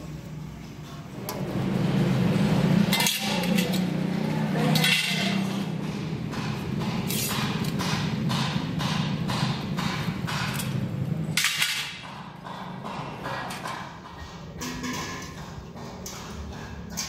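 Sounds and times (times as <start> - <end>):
metal strips clanking on concrete: 2.8 - 17.0.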